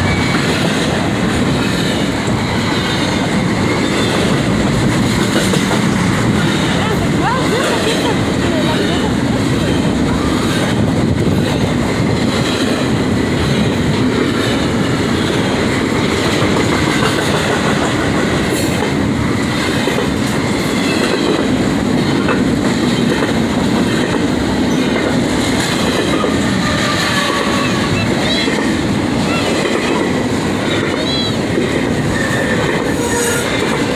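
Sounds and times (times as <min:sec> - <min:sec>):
clickety-clack of rail joints: 0:00.0 - 0:33.9
train wheels rumbling on rail: 0:00.0 - 0:33.9.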